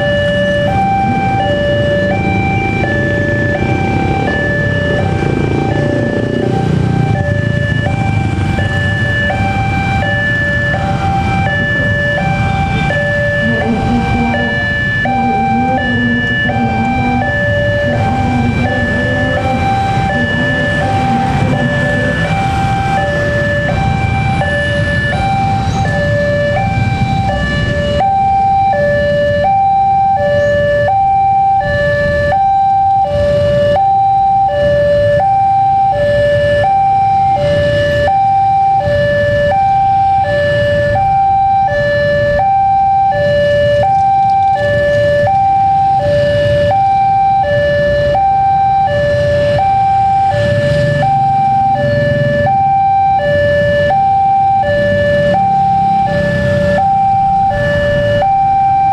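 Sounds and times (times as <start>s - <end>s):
low road traffic rumble: 0.0s - 58.9s
two-tone level crossing alarm: 0.0s - 58.9s.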